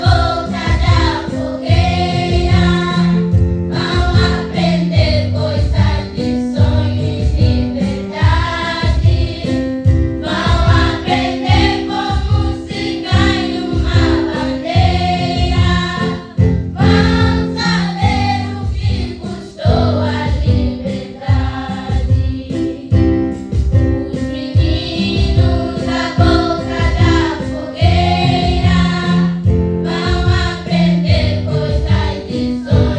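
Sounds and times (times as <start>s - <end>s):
group singing in chorus: 0.0s - 23.2s, 23.9s - 32.9s.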